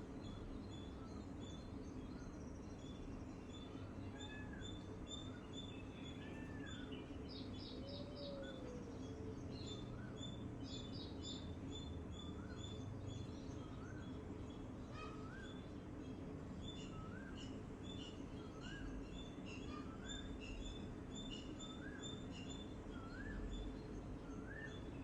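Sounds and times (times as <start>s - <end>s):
low background noise: 0.0s - 25.0s
birds chirping and calling: 0.2s - 25.0s.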